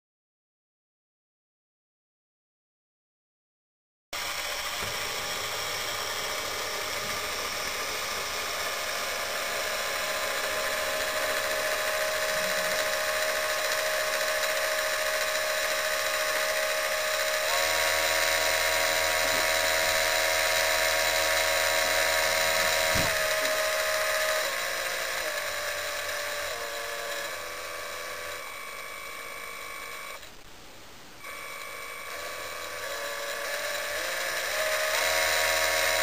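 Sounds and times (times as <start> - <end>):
small motor and gears whirring: 4.2 - 30.4, 31.2 - 36.0.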